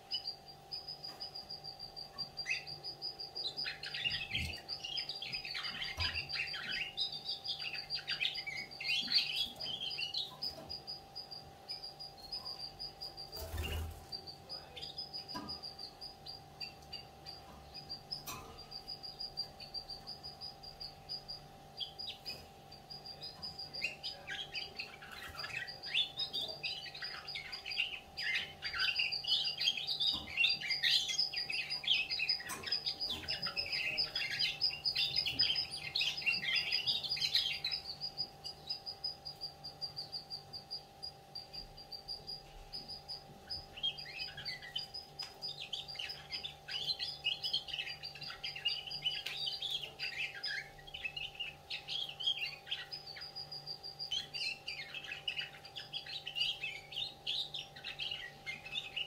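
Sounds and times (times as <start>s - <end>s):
canary singing: 0.0s - 59.0s
faint steady hum: 0.0s - 59.0s.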